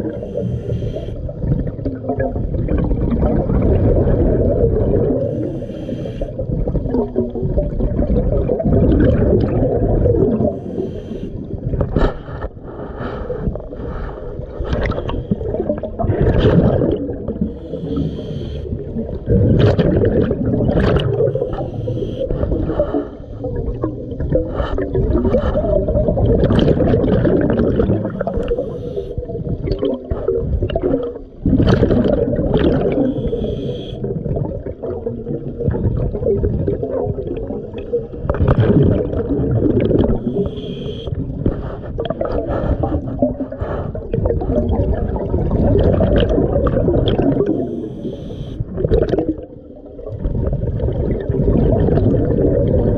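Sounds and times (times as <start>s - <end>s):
underwater bubbles gurgling: 0.0s - 52.9s.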